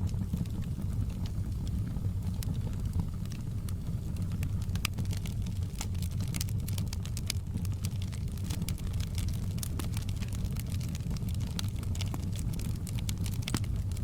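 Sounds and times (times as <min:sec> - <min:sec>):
burning wood rumble: 0:00.0 - 0:14.0
fire crackles and pops: 0:00.0 - 0:14.0.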